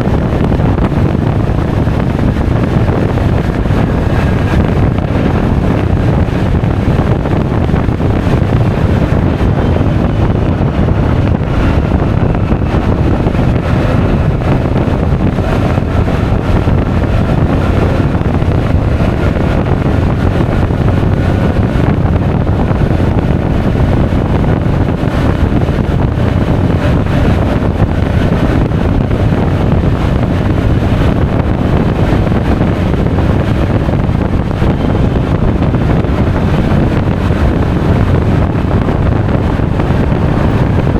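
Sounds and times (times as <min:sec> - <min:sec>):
scooter engine running: 0:00.0 - 0:40.9
wind buffeting microphone: 0:00.0 - 0:40.9.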